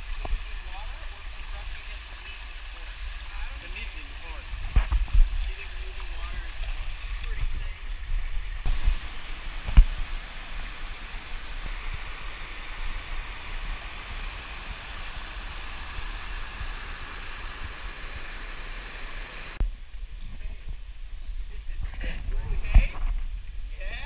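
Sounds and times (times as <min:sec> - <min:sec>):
water rushing over rocks: 0:00.0 - 0:19.6.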